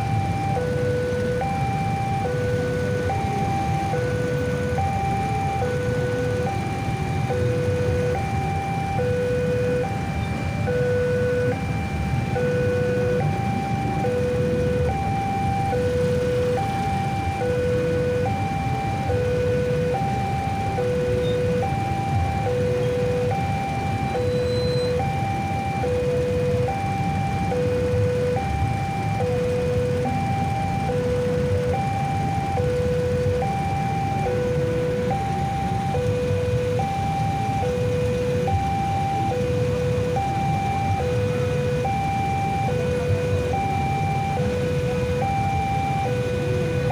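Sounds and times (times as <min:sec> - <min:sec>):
level crossing two-tone alarm: 0:00.0 - 0:46.9
motorcycles idling: 0:00.0 - 0:46.9.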